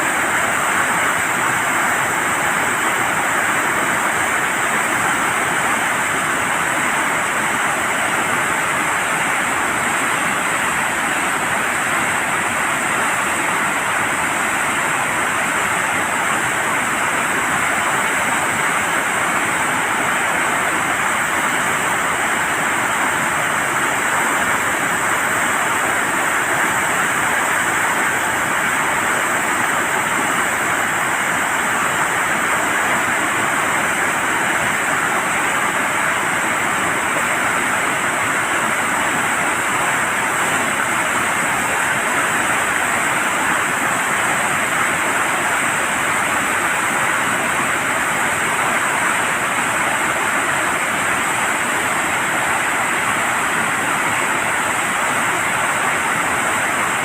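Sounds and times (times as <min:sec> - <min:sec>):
water rushing through floodgates: 0:00.0 - 0:57.0.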